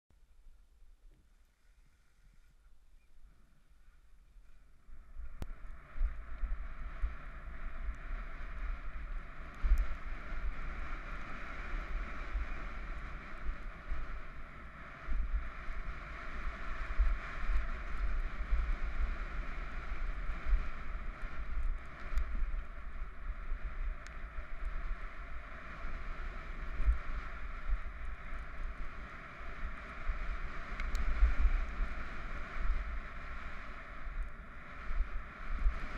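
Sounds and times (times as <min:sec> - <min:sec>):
wind rushing on microphone: 0:04.4 - 0:35.9.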